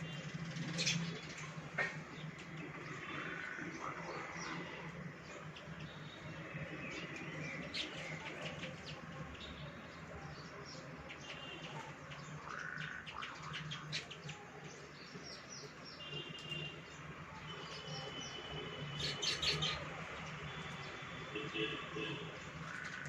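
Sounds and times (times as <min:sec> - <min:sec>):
birds chirping and chattering: 0:00.0 - 0:23.0.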